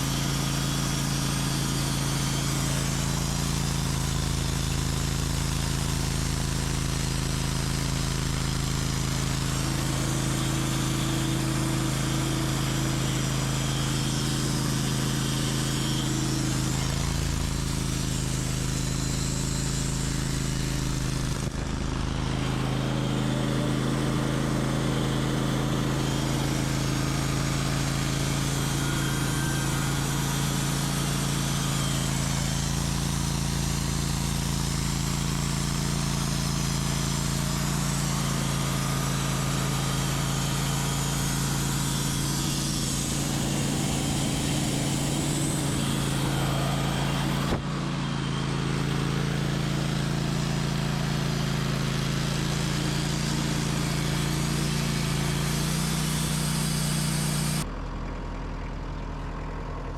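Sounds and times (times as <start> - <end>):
saw blade cutting wood: 0.0 - 57.6
sawmill engine running: 0.0 - 59.9.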